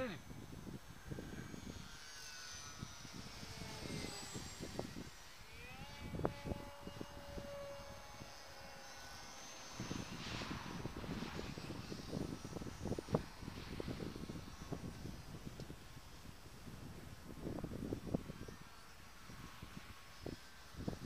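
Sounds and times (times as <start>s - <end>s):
model airplane motor whine: 0.0s - 21.0s
wind rumbling on microphone: 0.0s - 21.0s.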